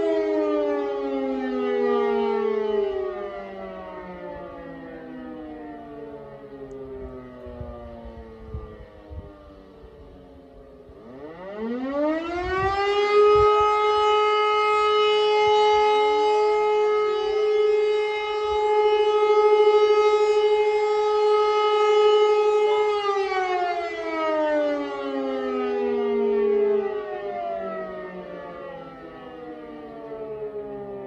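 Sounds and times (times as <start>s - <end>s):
civil defence sirens wailing: 0.0s - 31.0s.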